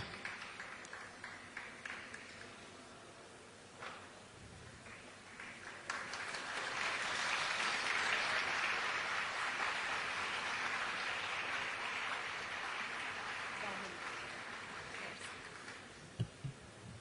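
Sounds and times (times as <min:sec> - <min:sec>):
crowd applauding: 0:00.0 - 0:02.9, 0:04.8 - 0:16.0.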